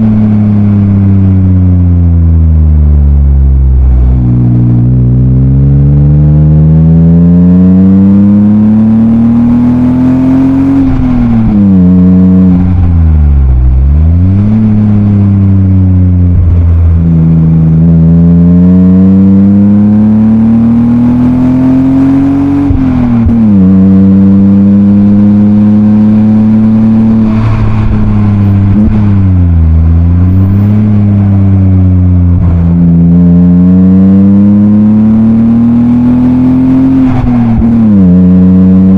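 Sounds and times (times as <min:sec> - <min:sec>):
car engine revving under load: 0:00.0 - 0:38.9.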